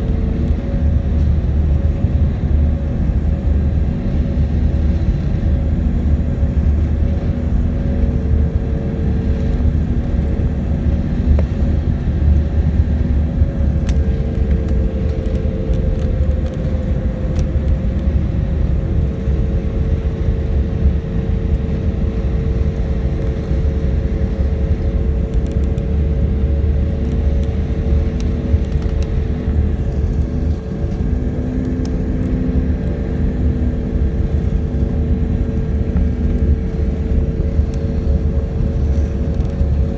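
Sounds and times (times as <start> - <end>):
airliner cabin engine rumble: 0.0 - 39.9
steady engine hums: 0.0 - 39.9.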